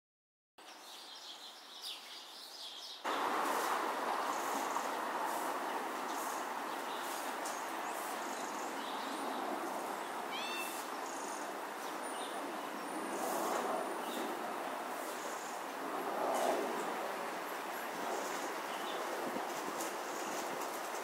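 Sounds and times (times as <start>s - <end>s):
small birds chirping: 0.6s - 14.4s, 15.0s - 15.7s, 18.0s - 21.0s
steady outdoor rushing noise: 3.0s - 21.0s.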